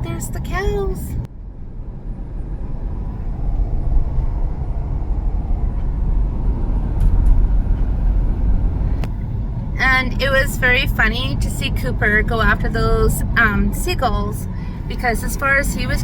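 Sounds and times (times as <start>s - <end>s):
car interior road noise: 0.0s - 16.0s.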